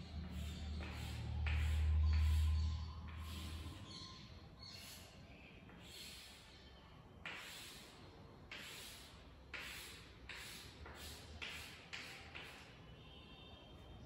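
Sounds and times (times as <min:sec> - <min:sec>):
chalk scratching on chalkboard: 0:00.0 - 0:12.8.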